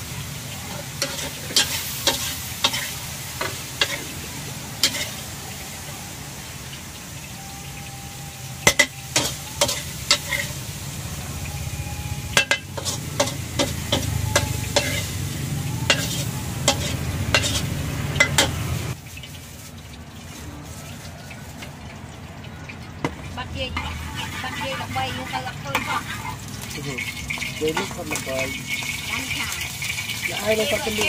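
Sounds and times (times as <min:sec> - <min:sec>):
wok burner rumble: 0:00.0 - 0:31.0
metal spatula scraping wok: 0:00.6 - 0:05.7, 0:08.6 - 0:21.6, 0:23.6 - 0:31.0.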